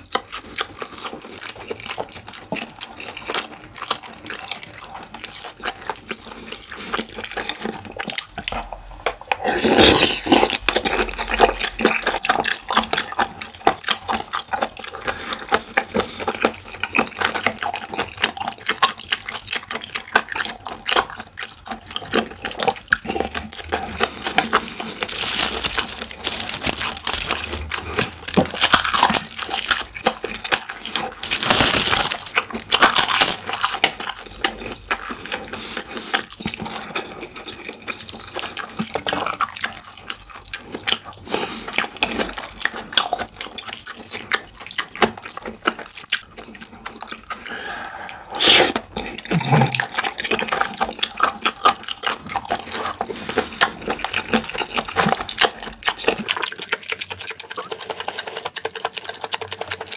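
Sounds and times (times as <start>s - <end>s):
chewing and mouth smacking: 0.0s - 59.9s.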